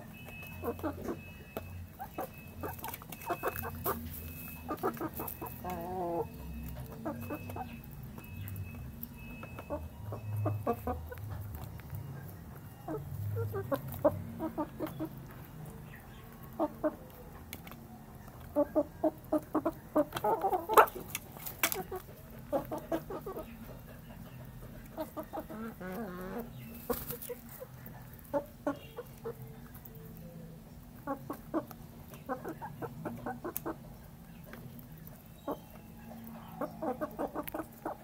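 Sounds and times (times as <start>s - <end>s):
chickens clucking: 0.0s - 38.0s
beaks pecking metal bowl: 0.1s - 38.0s.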